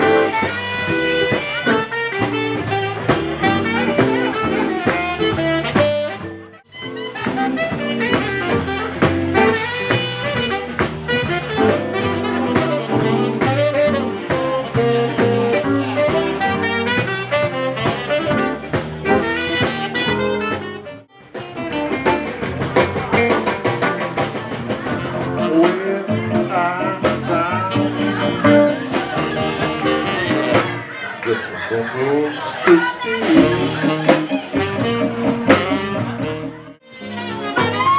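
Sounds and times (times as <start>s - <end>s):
drum kit beat: 0.0s - 31.7s, 32.6s - 37.9s
saxophone or brass horns: 0.0s - 31.9s, 32.6s - 37.9s
jazz band playing: 0.0s - 37.9s.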